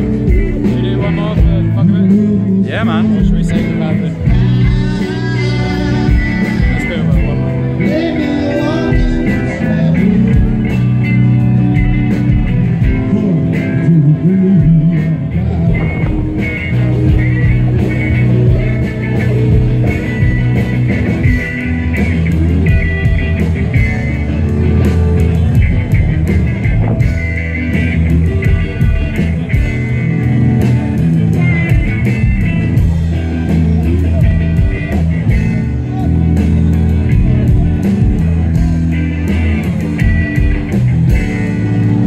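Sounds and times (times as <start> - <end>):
bass guitar: 0.0 - 42.0
guitar: 0.0 - 42.0
steady drum beat: 0.0 - 42.0.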